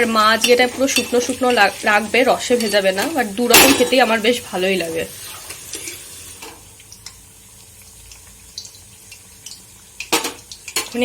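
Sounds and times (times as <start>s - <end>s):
batter sizzling in hot oil: 0.0s - 11.0s
oil crackling and popping: 0.0s - 11.0s.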